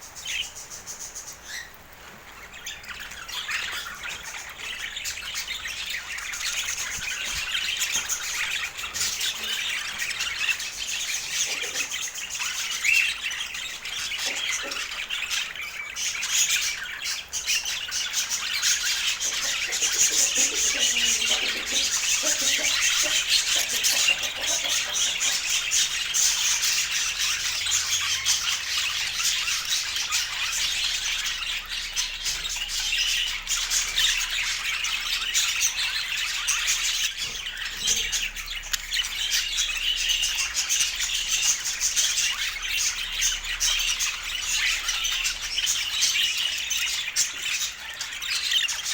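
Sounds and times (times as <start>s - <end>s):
budgerigars chattering and squawking: 0.0s - 48.9s.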